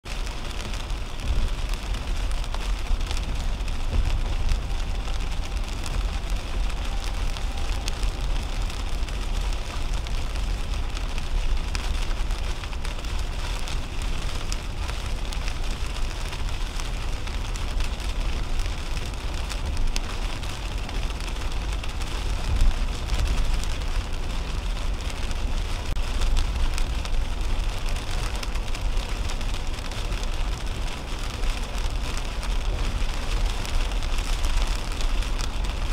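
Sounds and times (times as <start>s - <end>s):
rain hitting windshield: 0.0s - 35.9s
tyre noise on wet road: 0.0s - 35.9s.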